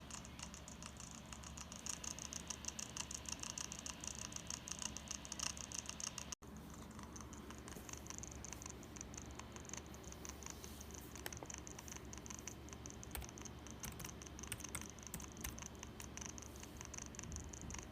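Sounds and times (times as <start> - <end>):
laptop fan clicking rattle: 0.0 - 17.9.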